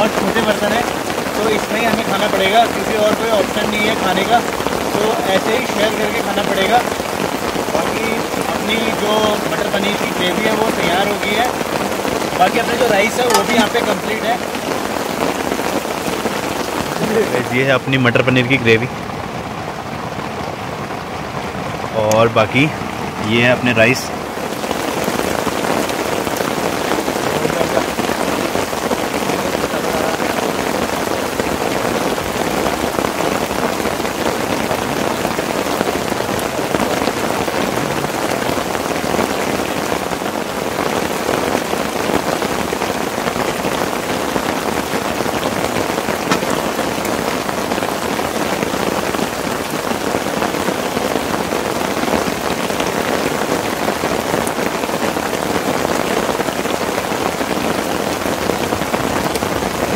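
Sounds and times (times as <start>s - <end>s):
heavy rain on tent: 0.0s - 59.9s.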